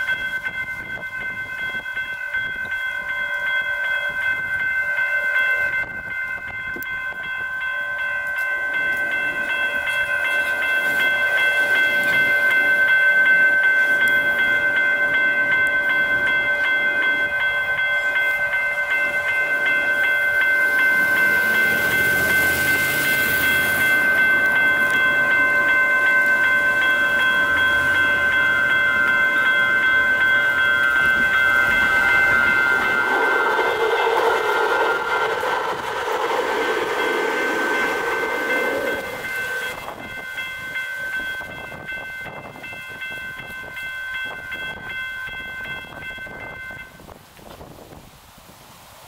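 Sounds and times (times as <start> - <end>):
railroad crossing bells ringing: 0.0 - 48.0
train rolling over crossing: 0.0 - 48.0.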